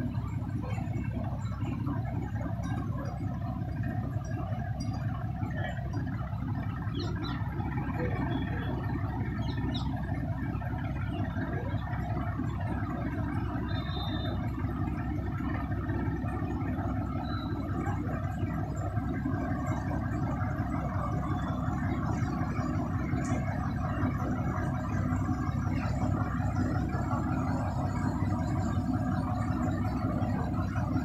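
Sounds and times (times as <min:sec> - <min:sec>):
crane engine droning: 0:00.0 - 0:31.0.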